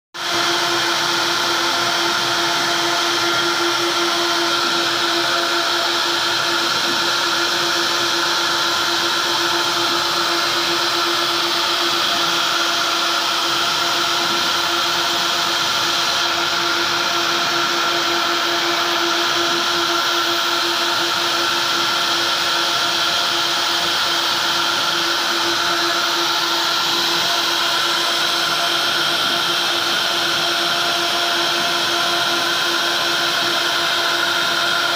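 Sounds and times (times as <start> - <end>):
router spindles whining: 0.2 - 34.9.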